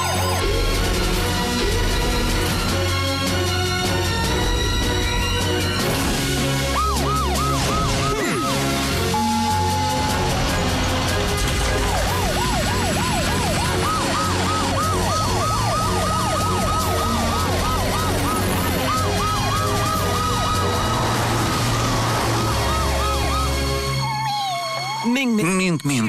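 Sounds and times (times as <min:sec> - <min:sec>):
cartoon sirens wailing: 0:00.0 - 0:25.6
background music: 0:00.0 - 0:26.0.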